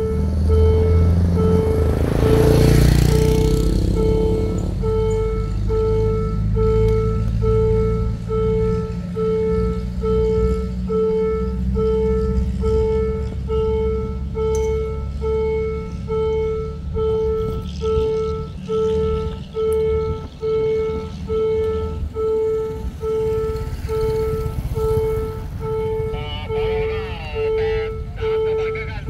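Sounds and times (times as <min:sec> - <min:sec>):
level crossing alarm tone: 0:00.0 - 0:29.0.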